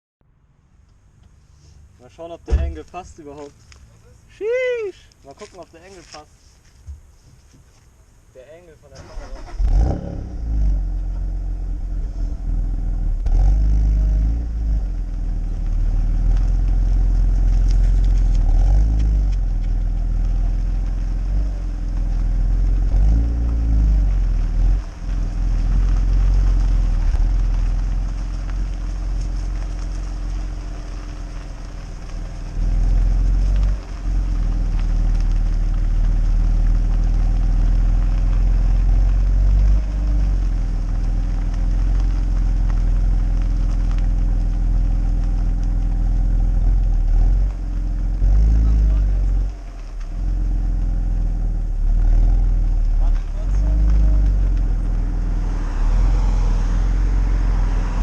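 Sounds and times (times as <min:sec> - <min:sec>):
car engine throttle blips: 0:09.0 - 0:58.0.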